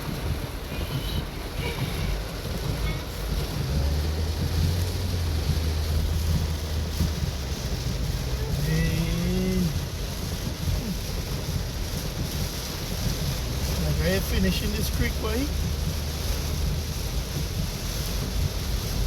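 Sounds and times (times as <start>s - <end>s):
car engine hum: 0.0s - 19.0s
rain and water spray: 0.0s - 19.0s.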